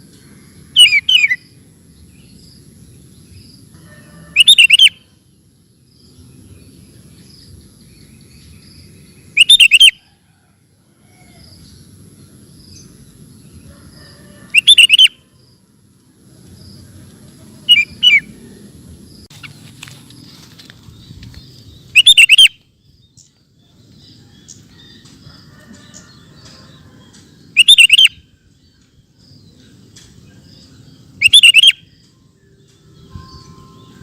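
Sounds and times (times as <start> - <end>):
bulbul singing: 0.0 - 10.0, 14.5 - 15.7, 16.5 - 20.3, 20.9 - 34.0.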